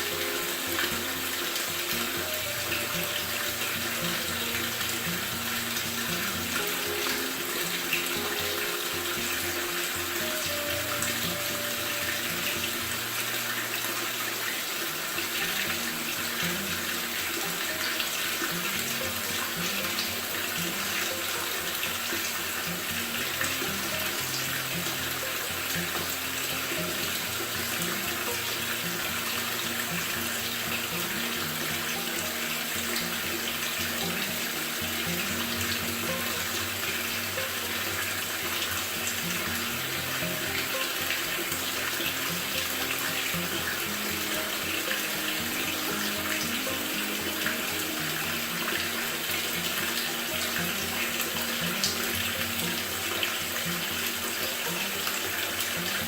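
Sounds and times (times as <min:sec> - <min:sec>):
washing machine filling with water: 0:00.0 - 0:56.0.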